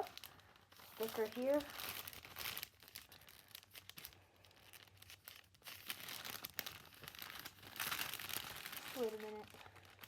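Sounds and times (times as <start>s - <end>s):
food packaging crinkling and tearing: 0.0s - 10.0s.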